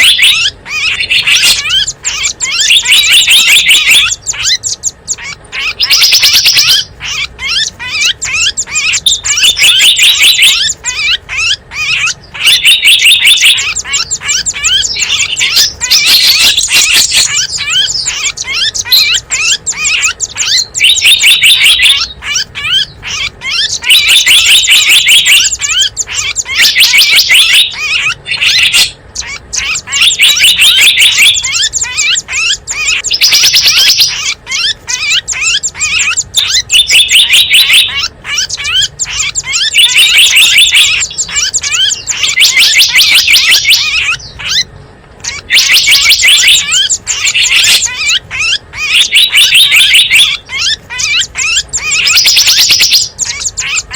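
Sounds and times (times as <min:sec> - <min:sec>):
small songbirds chirping: 0:00.0 - 0:53.9.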